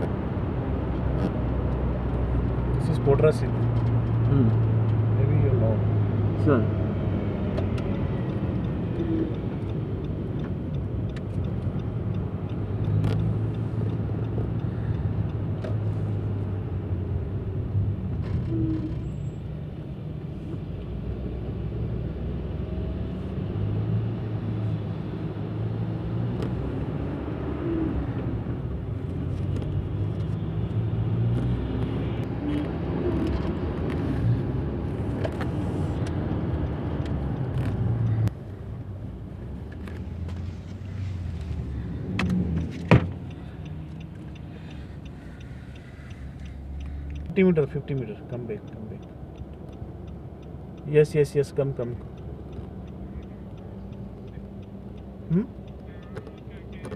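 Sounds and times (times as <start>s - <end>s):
car engine hum inside cabin: 0.0s - 56.9s
tyres on the road: 0.0s - 56.9s.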